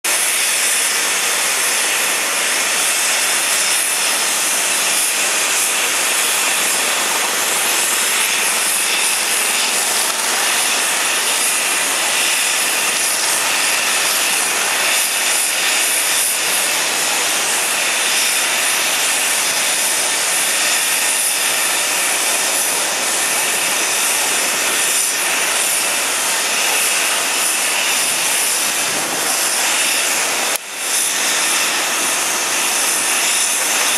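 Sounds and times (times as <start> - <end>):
jet turbine hiss and whine: 0.0 - 33.9.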